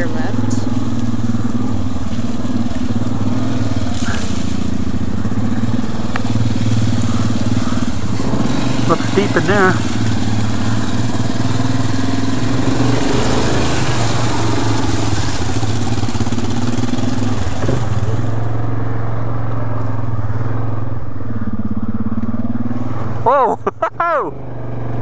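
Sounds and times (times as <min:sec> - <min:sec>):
engine running at low revs: 0:00.0 - 0:25.0.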